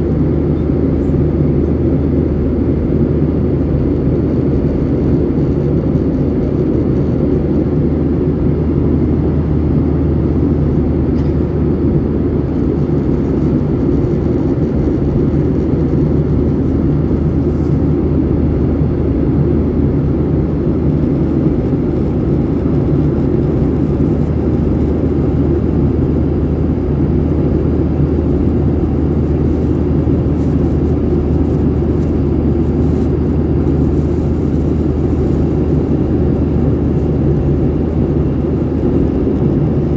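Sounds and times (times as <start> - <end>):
airliner cabin jet engine drone: 0.0 - 39.9.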